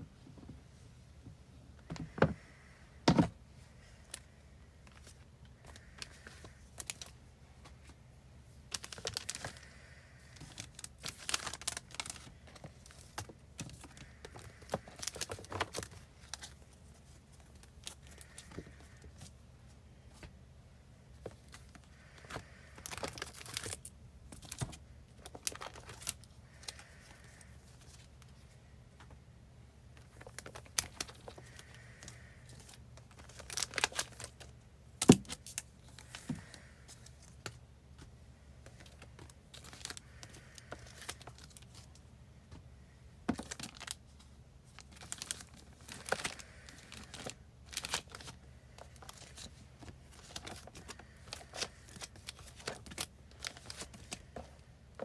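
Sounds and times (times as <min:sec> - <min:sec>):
plastic sleeves rustling and crinkling: 0:03.1 - 0:20.3, 0:21.1 - 0:29.1, 0:30.0 - 0:55.0.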